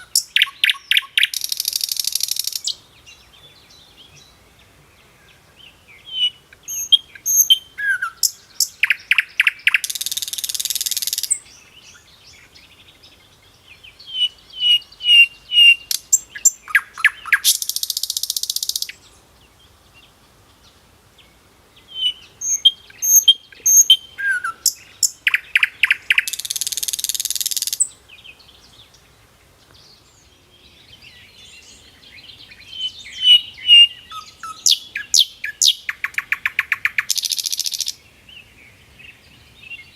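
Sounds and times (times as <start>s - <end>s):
songbird singing chirps and trill: 0.0s - 39.9s.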